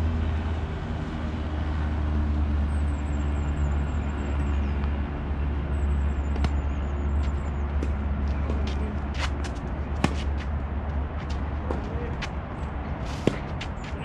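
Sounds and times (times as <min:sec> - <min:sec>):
low rumbling background noise: 0:00.0 - 0:14.0.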